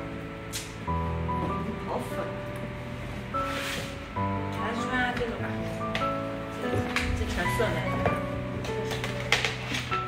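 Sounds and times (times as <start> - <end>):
background music slow held notes: 0.0 - 10.0.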